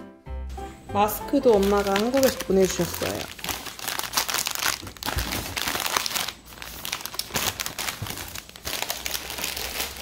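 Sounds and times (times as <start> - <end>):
plastic wrapping crinkling: 0.9 - 10.0.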